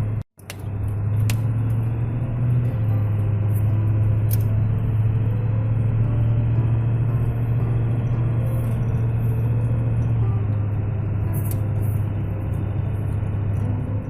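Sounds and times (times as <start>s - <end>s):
vehicle engine and tyre rumble: 0.0s - 14.0s.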